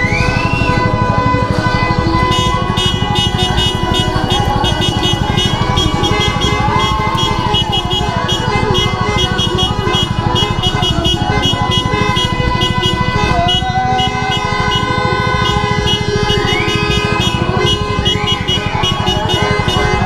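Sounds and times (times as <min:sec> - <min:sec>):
car horns honking: 0:00.0 - 0:20.0
motorcycle engine idling: 0:00.0 - 0:20.0
music with a steady beat: 0:00.0 - 0:20.0.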